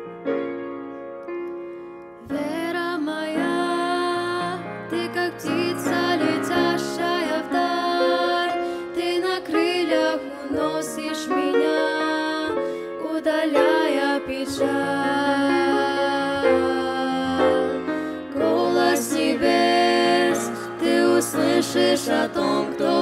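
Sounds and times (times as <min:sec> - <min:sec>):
grand piano accompaniment: 0:00.0 - 0:23.0
women singing: 0:02.3 - 0:23.0.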